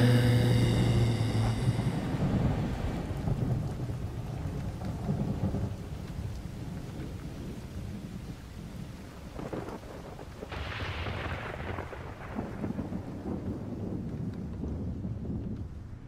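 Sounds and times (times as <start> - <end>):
rolling thunder: 0.0 - 8.2, 8.8 - 16.0.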